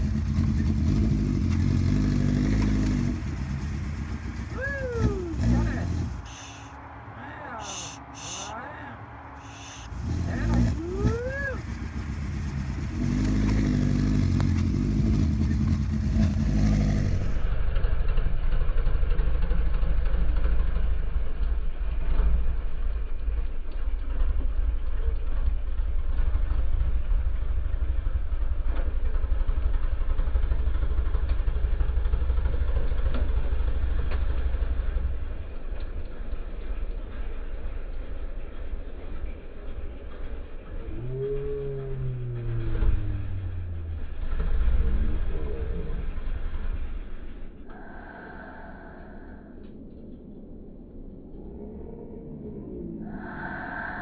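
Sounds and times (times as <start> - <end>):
motorcycle engine revving: 0.0 - 8.5, 9.3 - 35.8, 39.9 - 54.0.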